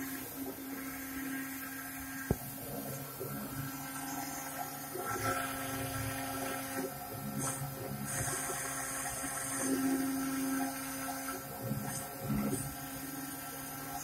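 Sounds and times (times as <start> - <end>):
router spindle hum: 0.0 - 14.0.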